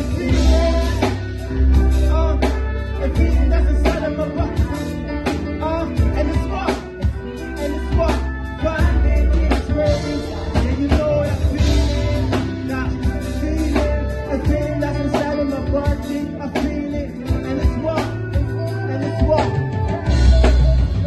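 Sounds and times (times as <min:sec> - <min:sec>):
loud live club music: 0:00.0 - 0:21.0
vocal over music: 0:00.0 - 0:21.0.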